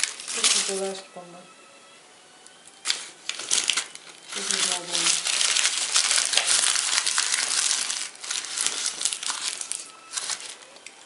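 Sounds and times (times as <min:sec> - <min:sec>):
paper wrapper crinkling: 0:00.0 - 0:01.0, 0:02.8 - 0:11.0.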